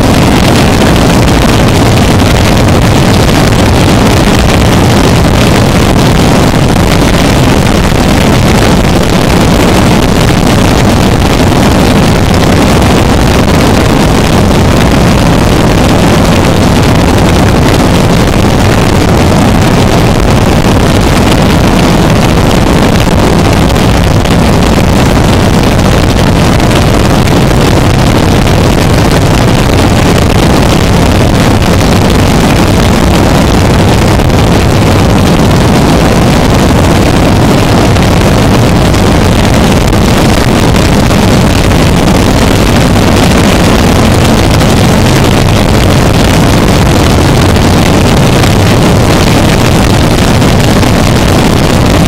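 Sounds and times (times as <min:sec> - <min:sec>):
steady low hum: 0:00.0 - 0:52.0
wall of distorted noise: 0:00.0 - 0:52.0.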